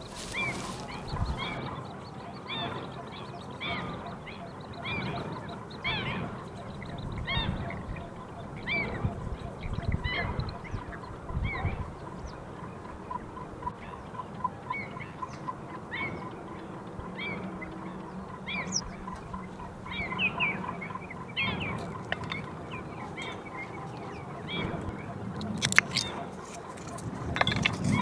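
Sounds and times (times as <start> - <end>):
birds chirping: 0.0 - 28.0
steady ticking: 0.0 - 28.0.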